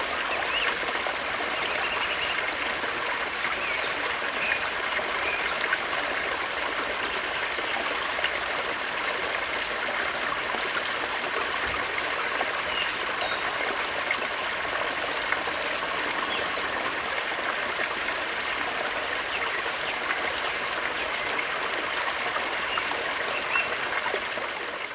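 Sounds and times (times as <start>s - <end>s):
stream water rushing: 0.0s - 24.9s.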